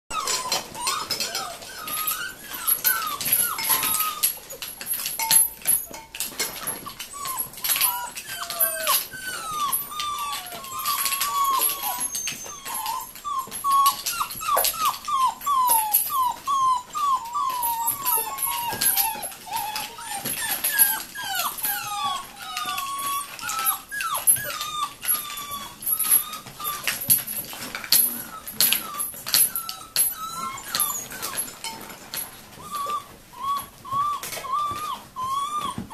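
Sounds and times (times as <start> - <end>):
puppies whimpering and yipping: 0.1 - 35.9.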